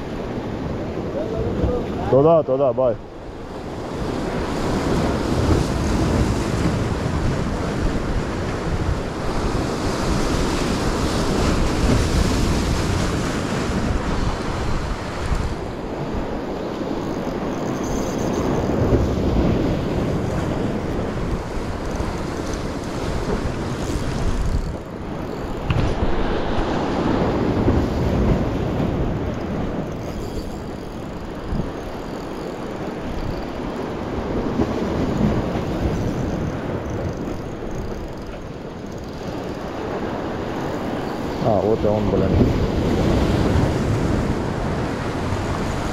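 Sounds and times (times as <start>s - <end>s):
wind buffeting microphone: 3.2s - 45.9s
waves washing against rocks: 3.6s - 17.6s, 18.4s - 37.7s, 38.3s - 45.9s.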